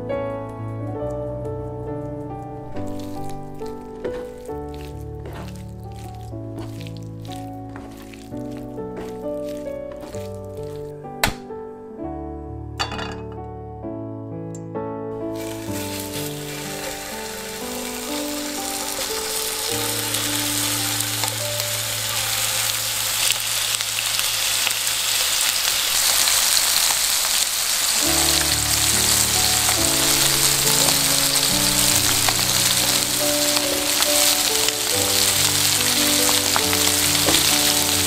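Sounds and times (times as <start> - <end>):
soft slow background music: 0.0 - 26.9, 27.9 - 38.0
chicken sizzling in frying pan: 2.8 - 10.9, 15.3 - 38.0.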